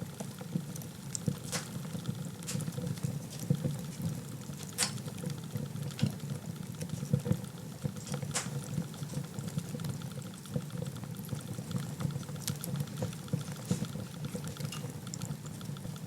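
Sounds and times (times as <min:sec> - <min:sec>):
fire burning in fireplace: 0:00.0 - 0:16.0
fire crackles and pops: 0:00.1 - 0:16.0.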